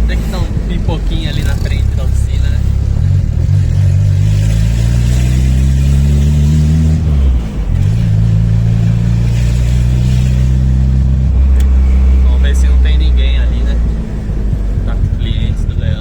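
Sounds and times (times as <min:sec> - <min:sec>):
turbocharged car engine revving: 0:00.0 - 0:16.0.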